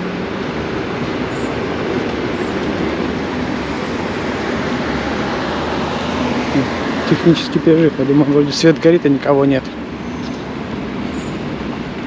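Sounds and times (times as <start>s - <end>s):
freight train wagons rolling on rails: 0.0s - 12.0s.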